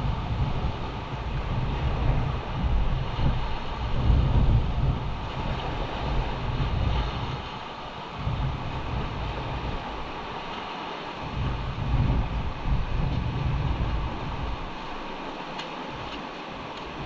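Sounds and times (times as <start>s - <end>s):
surf on rocky shore: 0.0s - 17.0s
wind buffeting microphone: 0.0s - 17.0s.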